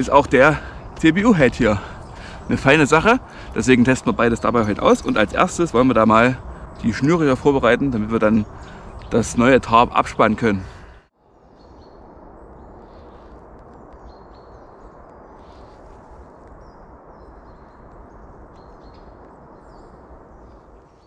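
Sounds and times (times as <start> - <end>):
faint bird chirps: 0.0 - 21.0
low rushing background noise: 0.0 - 21.0.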